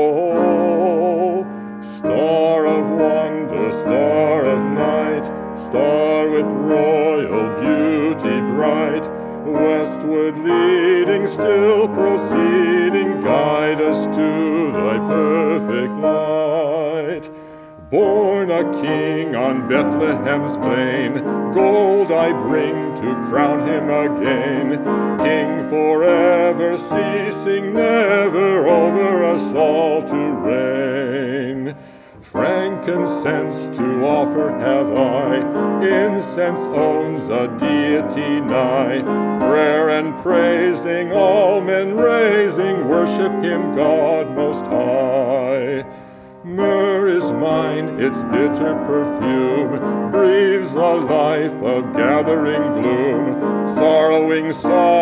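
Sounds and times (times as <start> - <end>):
person singing with vibrato: 0.0 - 55.0
piano accompaniment: 0.0 - 55.0.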